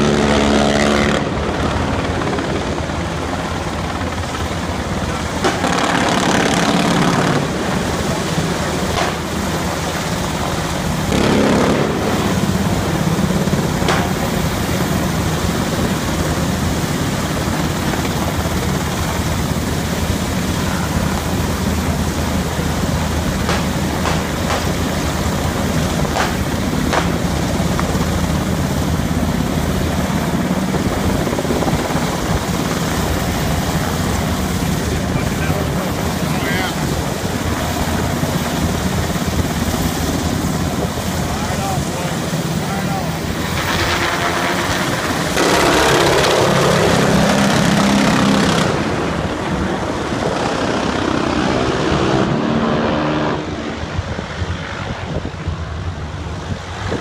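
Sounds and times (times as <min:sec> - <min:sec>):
helicopter engine noise: 0:00.0 - 0:57.0
helicopter rotor beating: 0:00.0 - 0:57.0.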